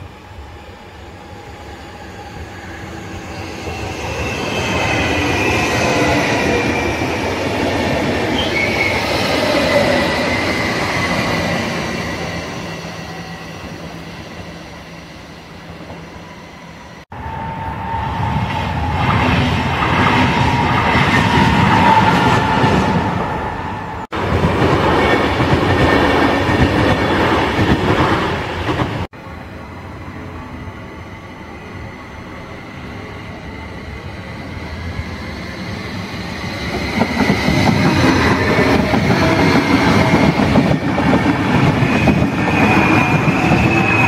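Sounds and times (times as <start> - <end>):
train wheels on rails: 2.0 - 29.1, 32.4 - 44.0.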